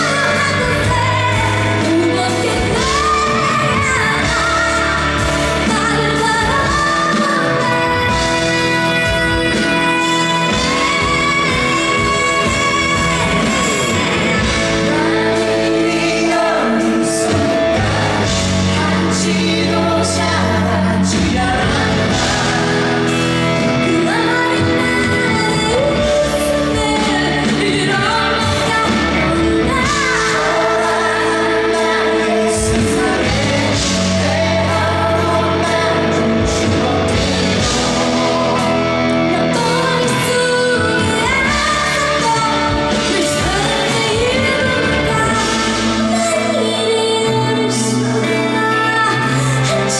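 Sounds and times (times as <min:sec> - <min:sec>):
woman singing pop ballad: 0:00.0 - 0:49.9.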